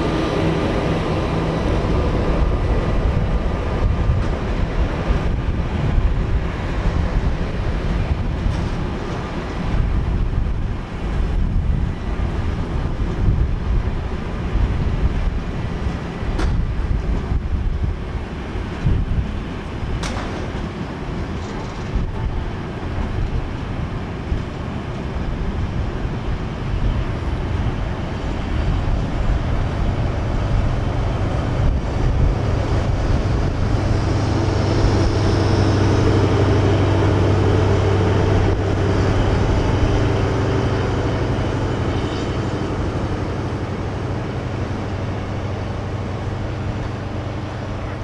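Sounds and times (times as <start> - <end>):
diesel engine low hum: 0.0 - 48.0
train wheels rolling on rails: 0.0 - 48.0.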